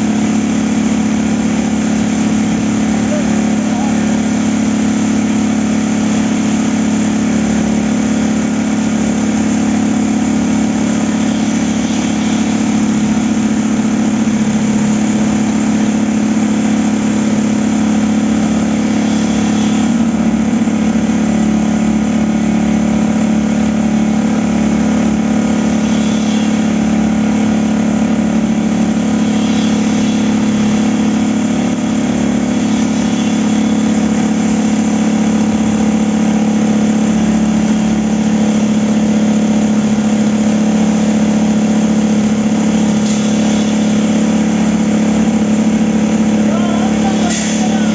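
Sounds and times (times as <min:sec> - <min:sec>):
concrete vibrator motor humming: 0:00.0 - 0:47.9.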